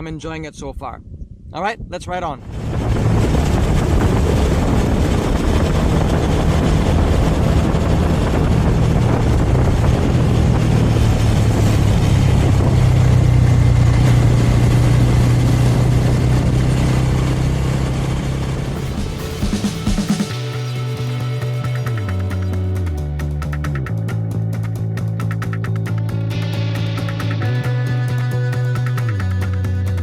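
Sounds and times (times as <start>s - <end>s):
wind and road noise: 0.0s - 29.2s
motorcycle engine cruising: 2.5s - 30.0s.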